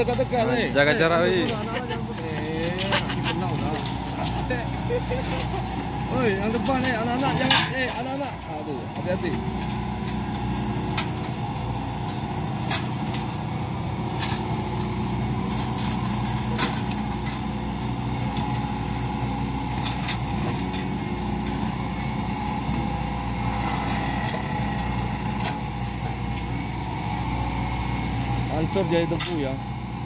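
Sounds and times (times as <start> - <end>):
excavator mulcher grinding: 0.0 - 30.0.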